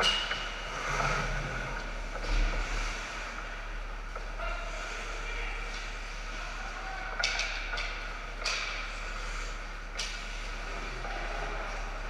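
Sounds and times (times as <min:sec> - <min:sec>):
steady rink hum: 0:00.0 - 0:12.0.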